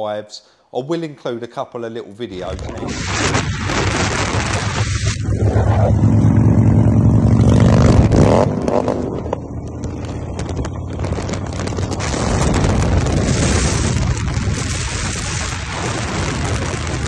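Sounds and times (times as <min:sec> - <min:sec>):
wind rush over microphone: 0:02.4 - 0:17.0
motorcycle engines running: 0:03.1 - 0:17.0.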